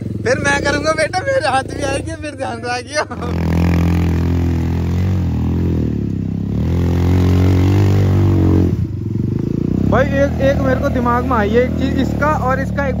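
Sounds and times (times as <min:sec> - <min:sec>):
atv engine under throttle: 0:00.0 - 0:13.0.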